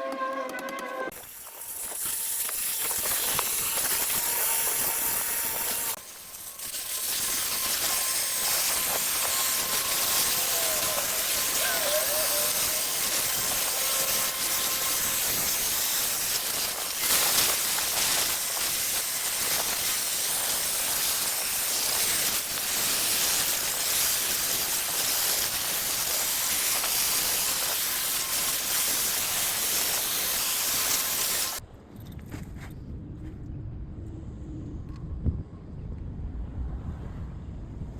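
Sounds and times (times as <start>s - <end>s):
torch flame hissing: 1.1s - 31.6s.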